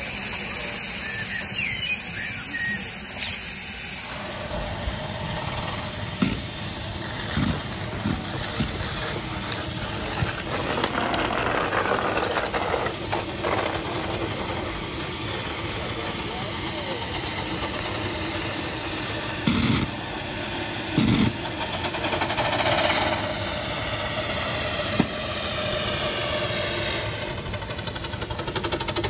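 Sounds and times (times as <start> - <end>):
steam hissing: 0.0 - 29.0.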